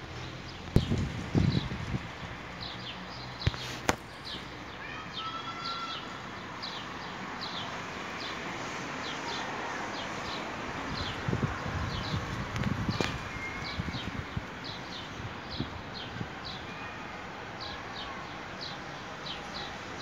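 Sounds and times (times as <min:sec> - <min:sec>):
leaves rustling in breeze: 0:00.0 - 0:20.0.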